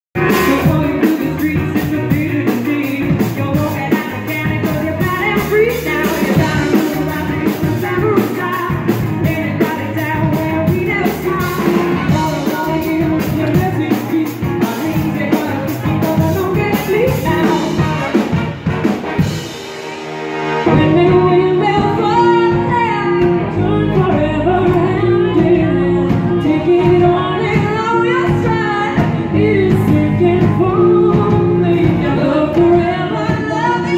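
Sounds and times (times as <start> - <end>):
woman singing: 0.2 - 18.6, 20.7 - 33.9
live rock band playing: 0.2 - 33.9.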